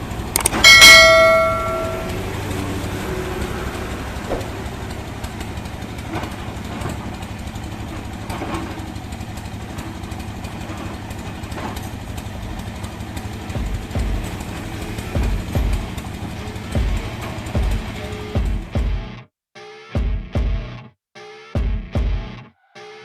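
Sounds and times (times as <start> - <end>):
toy excavator mechanical hum: 0.0 - 18.5.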